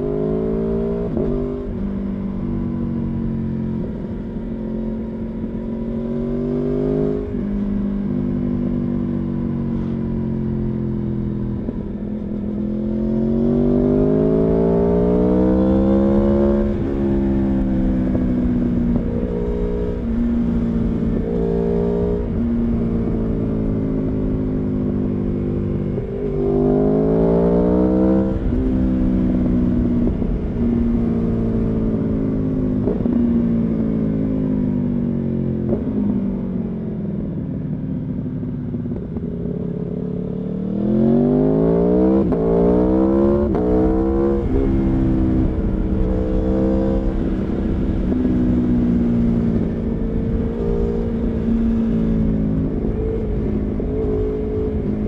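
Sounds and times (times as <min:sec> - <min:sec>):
motorcycle engine revving: 0:10.7 - 0:55.0.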